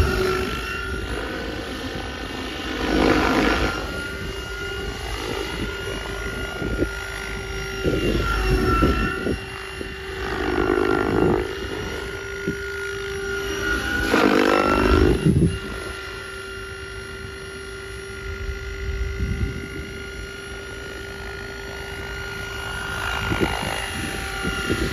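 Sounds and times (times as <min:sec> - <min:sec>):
rc helicopter flying: 0:00.0 - 0:24.9.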